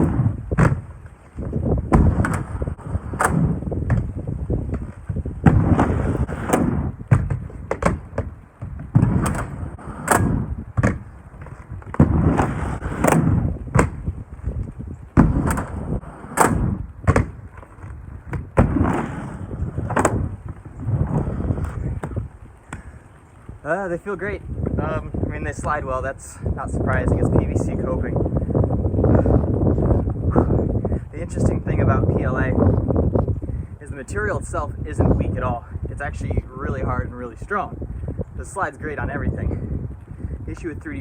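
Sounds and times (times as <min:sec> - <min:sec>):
skate wheels rolling rumble: 0:00.0 - 0:41.0.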